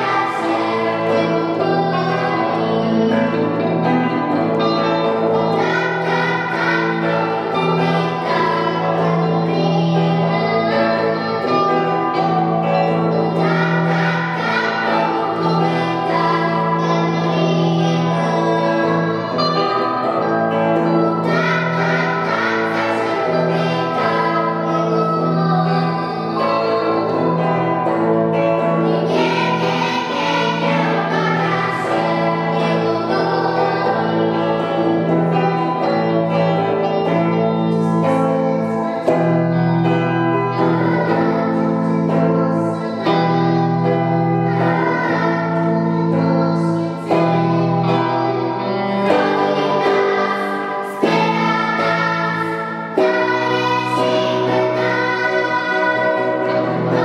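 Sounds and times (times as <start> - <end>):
children's choir singing: 0.0 - 57.0
electric guitar: 0.0 - 57.0.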